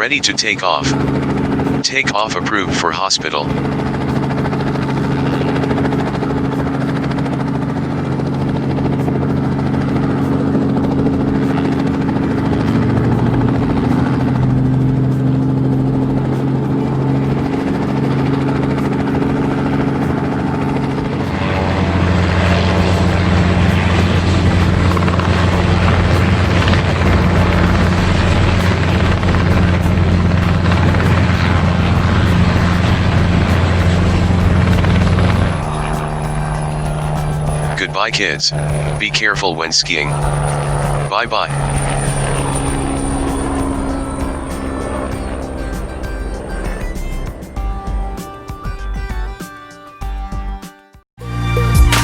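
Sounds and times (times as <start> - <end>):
helicopter rotor and turbine: 0.0 - 50.7.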